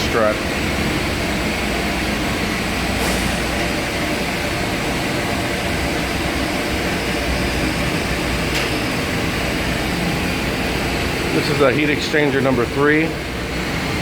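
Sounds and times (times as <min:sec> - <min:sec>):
boiler room machinery droning: 0:00.0 - 0:14.0.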